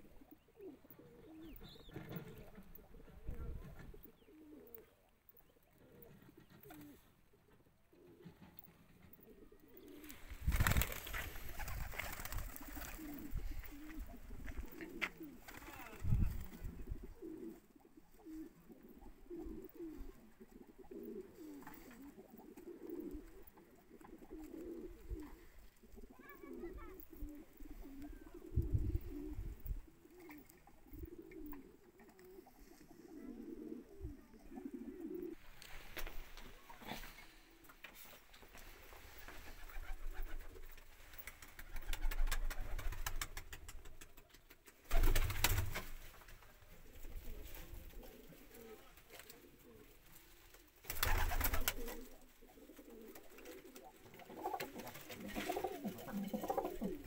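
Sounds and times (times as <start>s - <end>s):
pigeons cooing: 0.0s - 35.4s, 36.1s - 43.5s, 44.9s - 57.0s.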